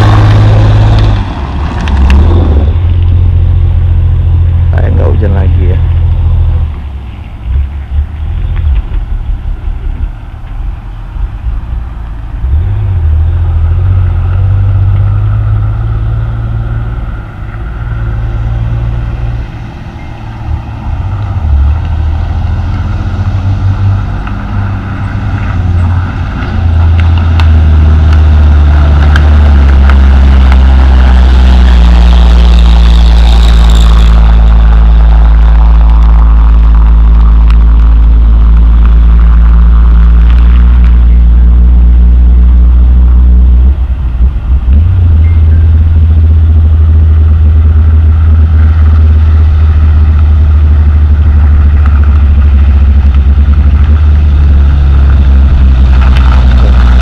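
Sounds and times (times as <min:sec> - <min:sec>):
diesel truck engine drone: 0:00.0 - 0:57.0.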